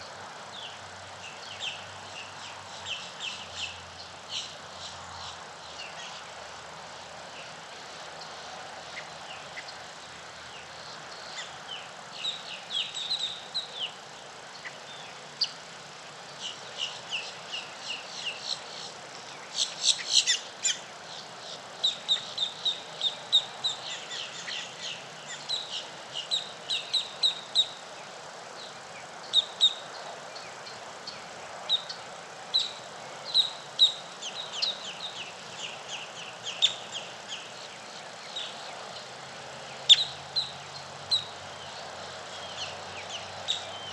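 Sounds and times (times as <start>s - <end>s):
faint background hiss: 0.0s - 43.9s
small birds chirping: 0.0s - 43.9s.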